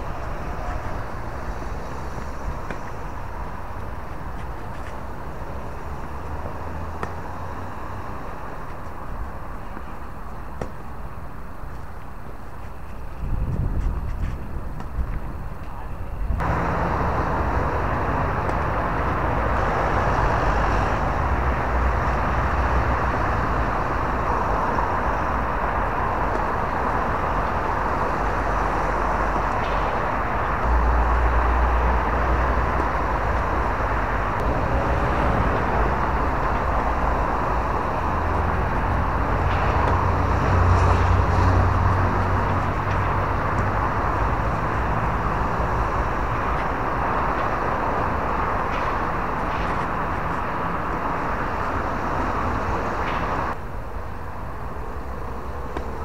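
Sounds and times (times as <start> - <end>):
outdoor background rush: 0.0 - 56.0.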